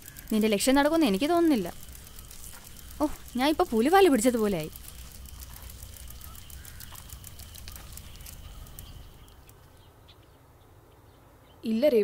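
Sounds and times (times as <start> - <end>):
high-pitched clicks and chirps: 0.0 - 9.9.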